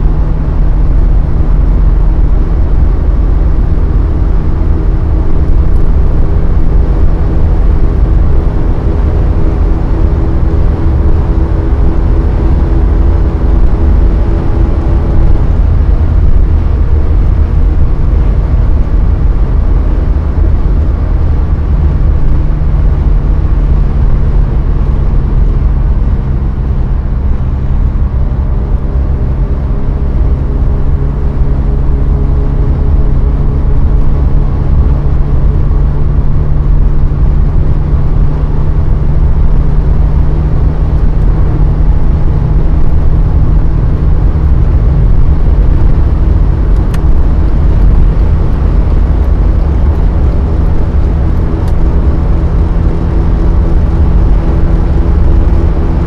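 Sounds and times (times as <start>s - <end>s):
car engine droning: 0.0s - 56.0s
wind noise: 0.0s - 56.0s.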